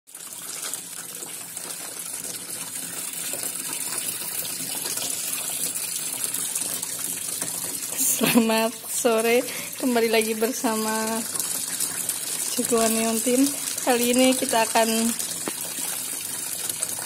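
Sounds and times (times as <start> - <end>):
tap water gushing into tub: 0.1 - 17.0.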